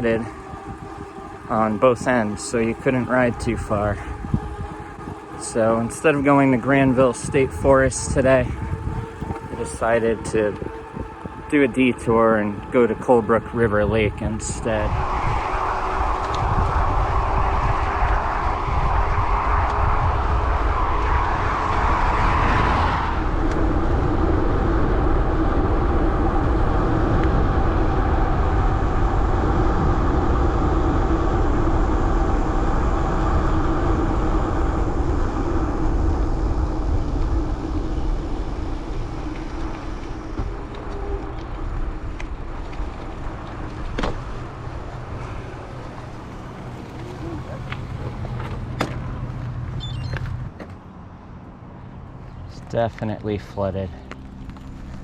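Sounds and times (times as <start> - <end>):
bike tyres rolling on pavement: 0.0 - 55.0
wind rushing over microphone: 0.0 - 55.0.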